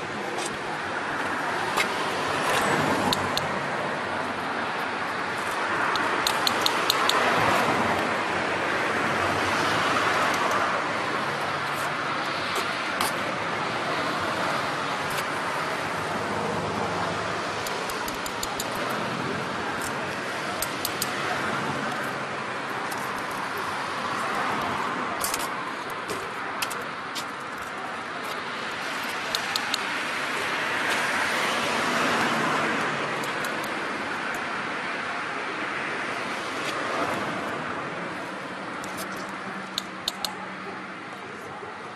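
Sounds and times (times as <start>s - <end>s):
road traffic passing: 0.0s - 41.9s.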